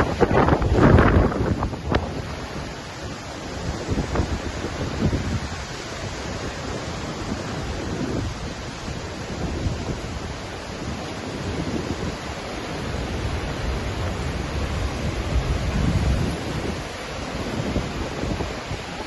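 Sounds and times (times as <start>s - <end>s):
waterfall roaring: 0.0s - 19.0s
wind buffeting microphone: 0.0s - 19.0s.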